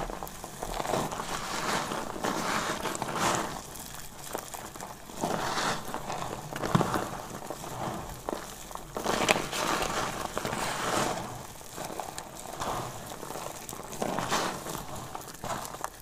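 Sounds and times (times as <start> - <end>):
dry soap pieces crunching: 0.0 - 16.0.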